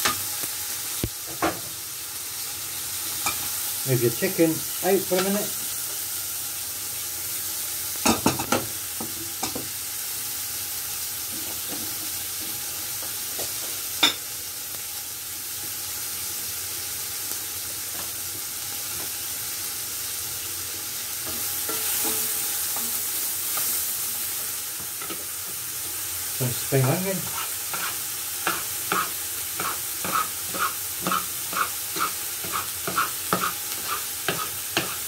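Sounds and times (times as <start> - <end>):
peppers sizzling in frying pan: 0.0 - 35.0.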